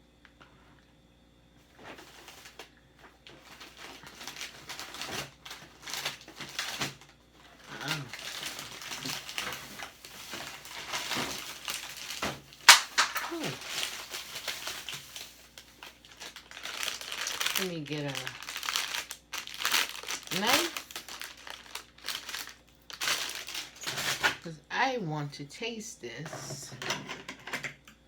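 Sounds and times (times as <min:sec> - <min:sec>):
paper crinkling: 0:01.7 - 0:24.4.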